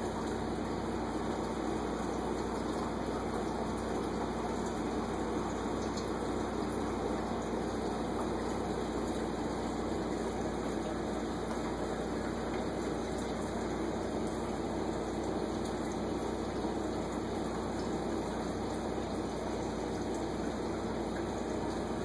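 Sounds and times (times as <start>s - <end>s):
circulating water rushing: 0.0s - 22.0s
pumps humming: 0.0s - 22.0s.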